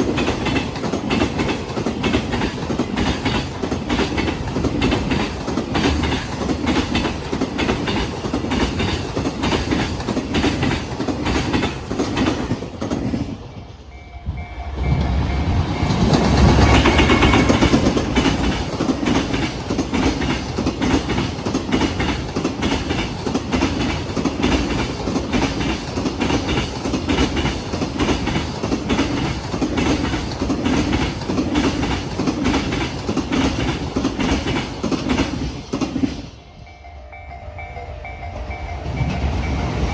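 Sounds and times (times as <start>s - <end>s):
train wheels clattering over rail joints: 0.0s - 13.5s, 15.6s - 36.3s.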